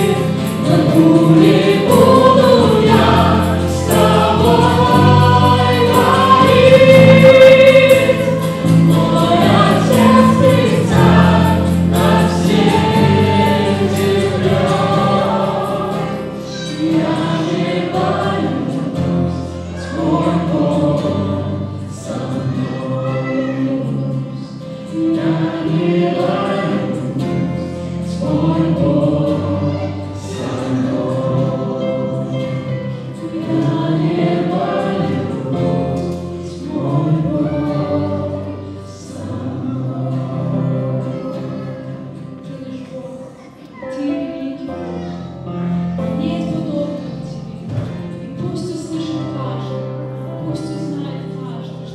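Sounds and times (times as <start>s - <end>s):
group singing: 0.0s - 43.4s
acoustic guitar: 0.0s - 51.9s
keyboard: 0.0s - 51.9s.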